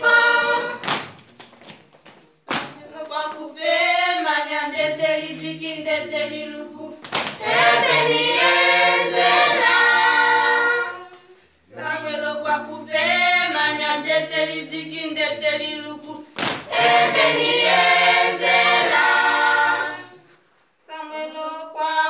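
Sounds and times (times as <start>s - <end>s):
group singing a cappella: 0.0s - 0.9s, 2.8s - 22.0s.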